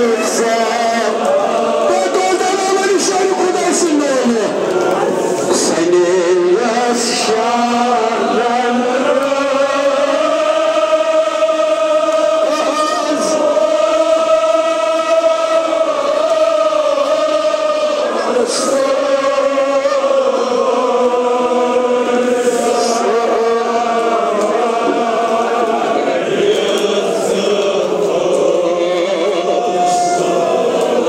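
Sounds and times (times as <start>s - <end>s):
men chanting a lament: 0.0s - 31.0s.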